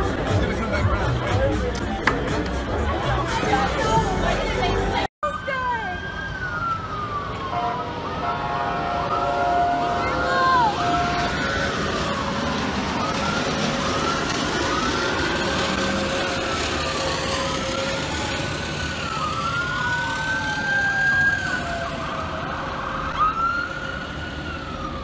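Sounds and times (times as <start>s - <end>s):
vehicle noise: 0.0s - 25.0s
police sirens wailing: 2.8s - 25.0s.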